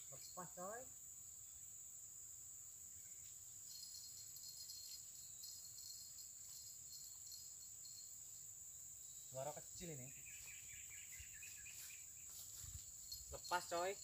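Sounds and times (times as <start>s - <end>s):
high-pitched insect drone: 0.0s - 14.0s
insect pulsing chirps: 0.0s - 14.0s.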